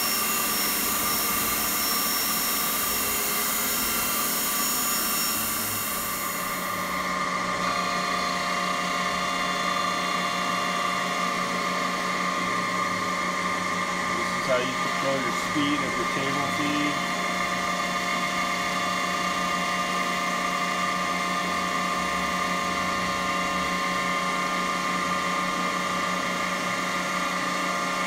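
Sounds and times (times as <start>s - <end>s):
grinder machine whine: 0.0s - 28.0s.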